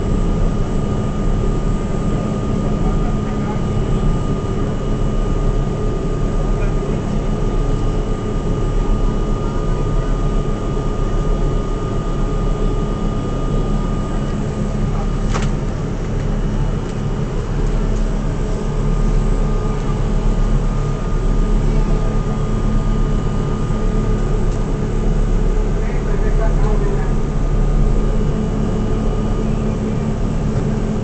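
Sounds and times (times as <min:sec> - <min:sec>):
subway car rumble and hum: 0:00.0 - 0:31.0.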